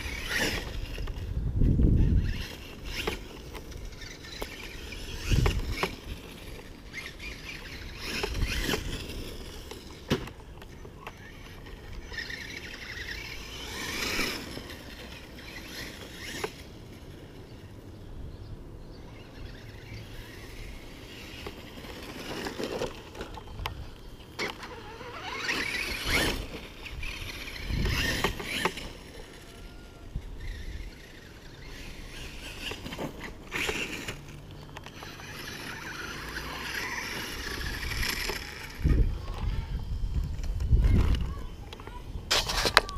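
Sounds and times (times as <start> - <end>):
electric motor whining: 0.0 - 17.9, 19.1 - 42.9.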